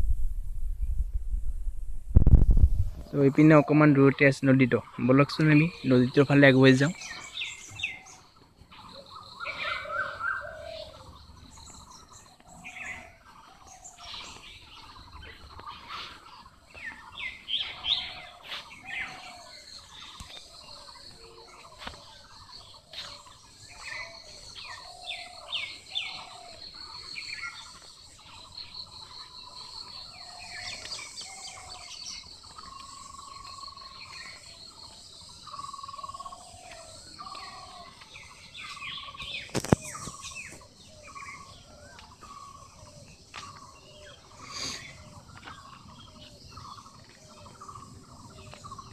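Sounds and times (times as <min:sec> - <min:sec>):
high insect hum: 0:00.0 - 0:48.9
birds chirping and calling: 0:02.5 - 0:48.9.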